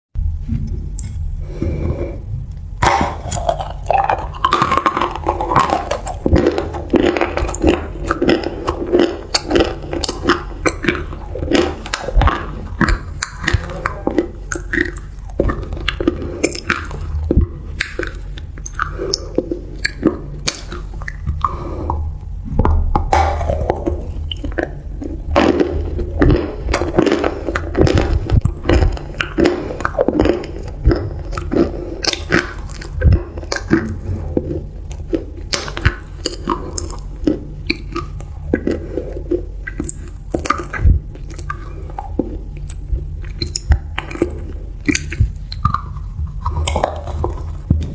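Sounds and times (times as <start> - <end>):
chewing crunchy food: 0.6 - 47.9.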